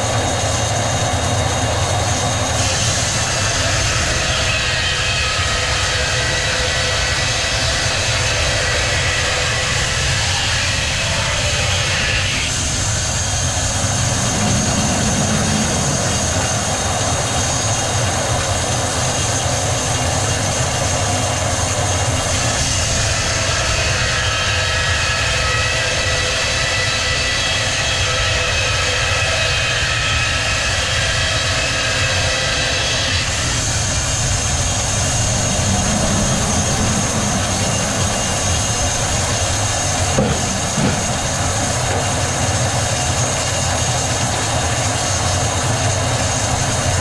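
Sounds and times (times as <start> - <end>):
high machine whine: 0.0 - 47.0
sawmill machinery roar: 0.0 - 47.0.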